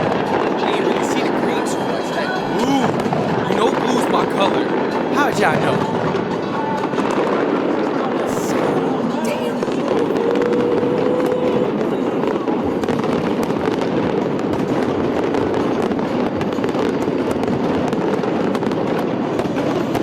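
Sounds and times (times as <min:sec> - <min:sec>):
fireworks bursts and crackles: 0:00.0 - 0:20.0.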